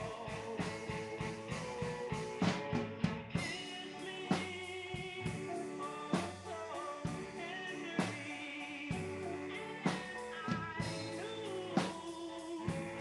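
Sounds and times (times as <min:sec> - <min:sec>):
rock music with drum kit: 0:00.0 - 0:13.0.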